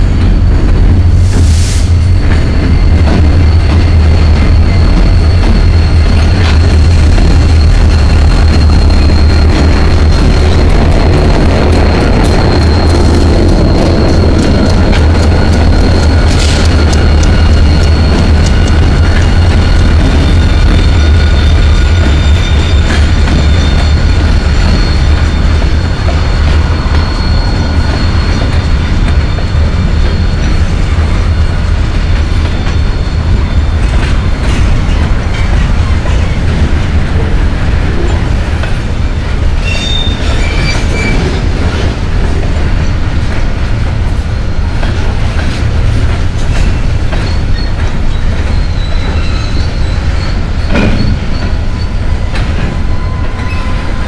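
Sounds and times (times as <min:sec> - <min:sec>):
freight train cars rumbling: 0:00.0 - 0:54.0
high wheel squeals: 0:01.8 - 0:54.0.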